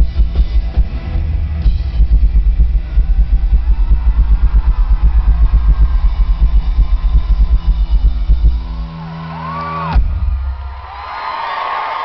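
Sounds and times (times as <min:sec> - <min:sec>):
drum kit pounding fast beat: 0:00.0 - 0:11.2.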